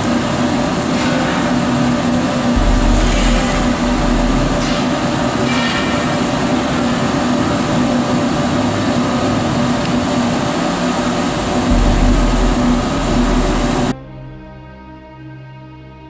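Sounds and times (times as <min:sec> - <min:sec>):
pellet burner roaring: 0:00.0 - 0:13.9
background music: 0:00.0 - 0:16.0.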